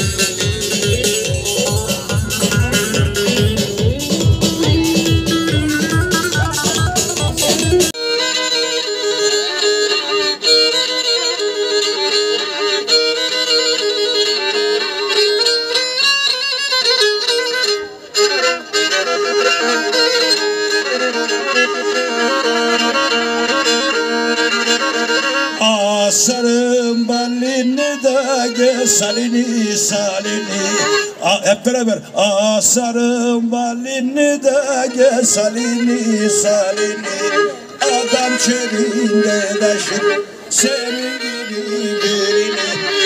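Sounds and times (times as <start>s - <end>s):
folk band playing: 0.0s - 43.0s.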